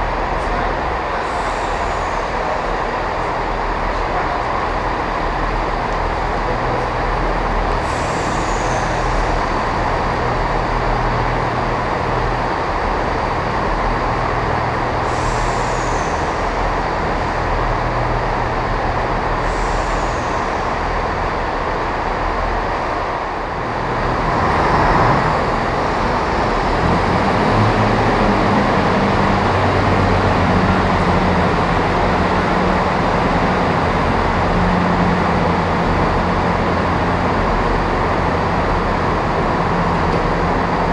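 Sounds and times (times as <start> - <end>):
diesel train engine idling: 0.0 - 40.9.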